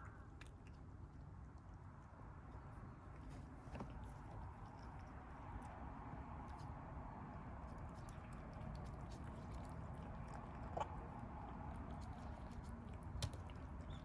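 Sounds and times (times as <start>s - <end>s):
kittens chewing food: 0.0s - 14.0s.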